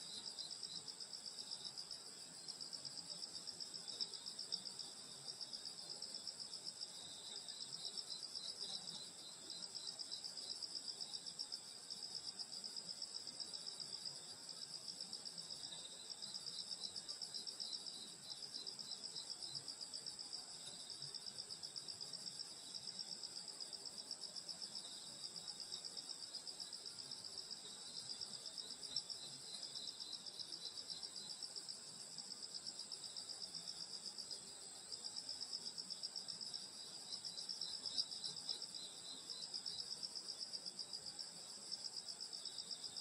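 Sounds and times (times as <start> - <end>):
lower insect call: 0.0 - 43.0.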